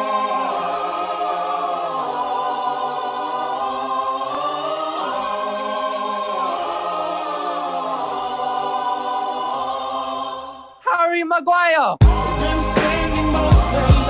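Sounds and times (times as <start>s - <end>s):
choir singing sustained chords: 0.0s - 10.8s, 12.0s - 14.0s.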